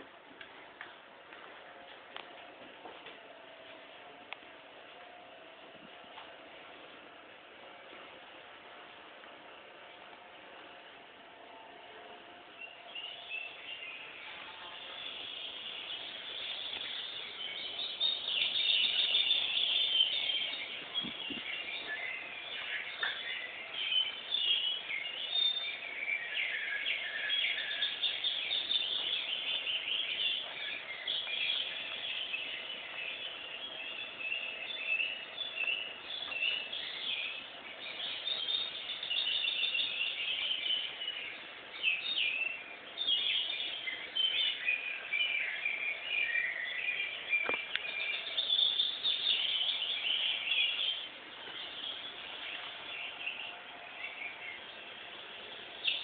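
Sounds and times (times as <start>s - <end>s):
small birds chirping and twittering: 3.2s - 56.0s.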